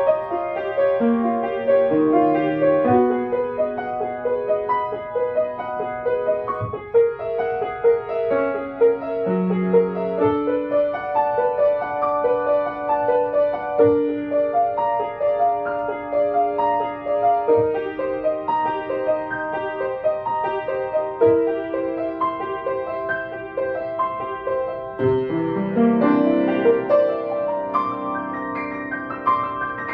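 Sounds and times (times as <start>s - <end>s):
quick piano notes: 0.0s - 29.9s.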